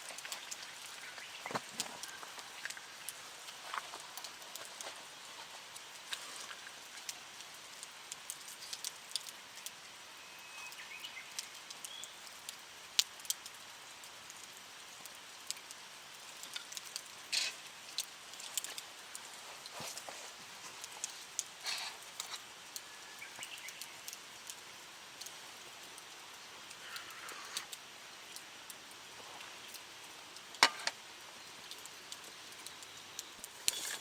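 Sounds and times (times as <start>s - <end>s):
low steady fire hiss: 0.0s - 34.0s
wood fire crackling and popping: 0.0s - 34.0s.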